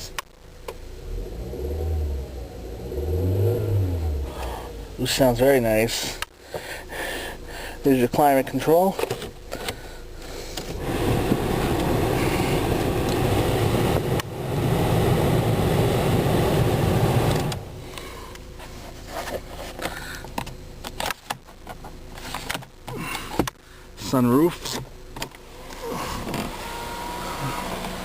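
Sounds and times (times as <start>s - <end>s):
car blower fan running: 0.5s - 28.0s.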